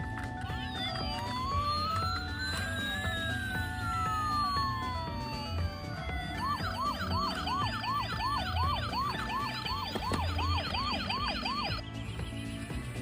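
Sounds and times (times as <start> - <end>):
background music with beat: 0.0 - 13.0
electronic siren yelping: 0.1 - 11.8.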